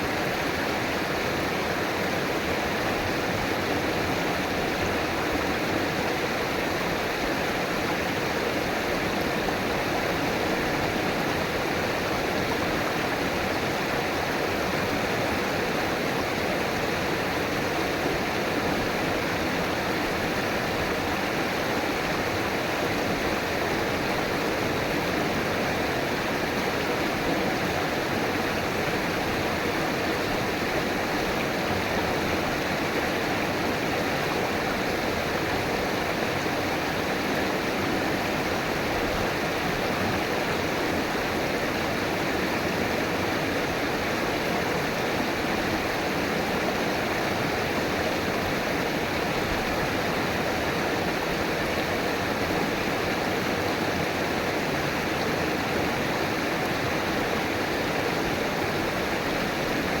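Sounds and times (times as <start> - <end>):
river rushing over rocks: 0.0 - 60.0.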